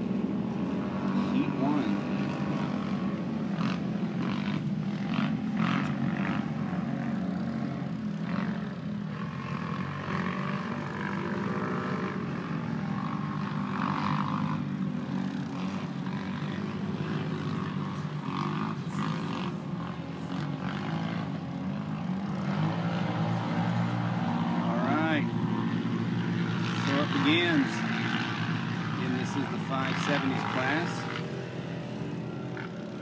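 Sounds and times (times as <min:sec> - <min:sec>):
drone propellers humming: 0:00.0 - 0:33.0
race vehicle engines: 0:00.0 - 0:33.0.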